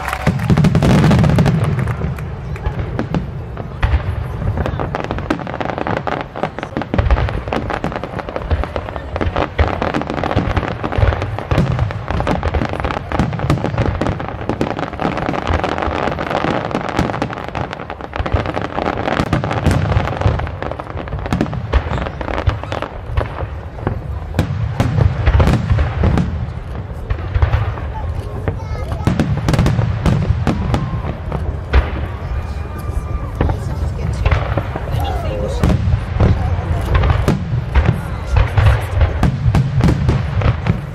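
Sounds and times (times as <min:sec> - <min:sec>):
fireworks booming: 0:00.0 - 0:40.9
fireworks popping and crackling: 0:00.0 - 0:40.9.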